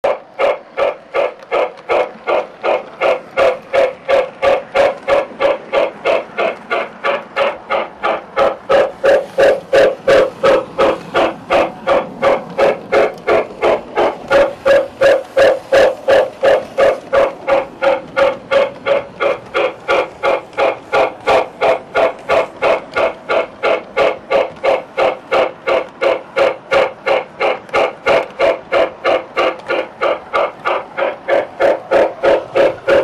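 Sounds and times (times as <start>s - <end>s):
steam locomotive chuffing: 0.0s - 33.0s.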